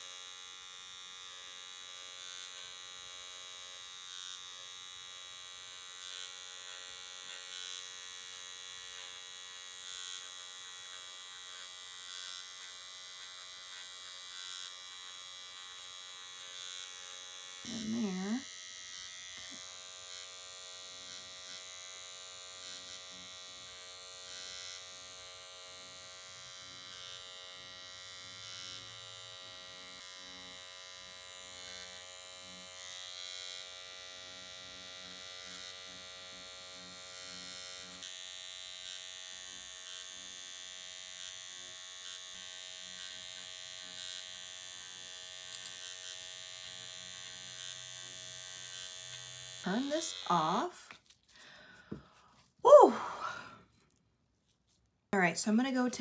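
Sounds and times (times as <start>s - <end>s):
microneedling pen motor buzz: 0.0s - 52.1s, 55.2s - 56.0s.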